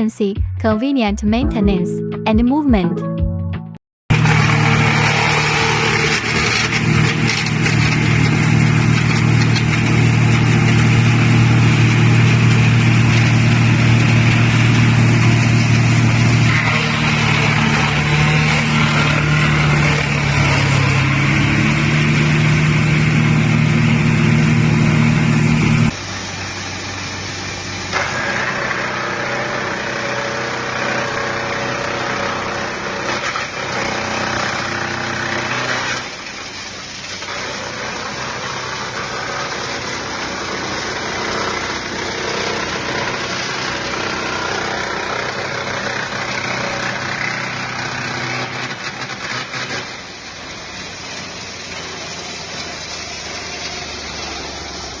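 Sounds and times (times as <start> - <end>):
wood crusher humming: 4.1 - 55.0.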